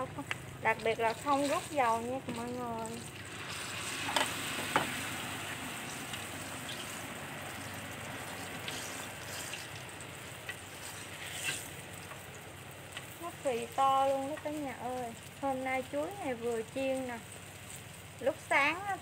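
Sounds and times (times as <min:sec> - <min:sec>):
food deep-frying in oil: 0:00.0 - 0:19.0.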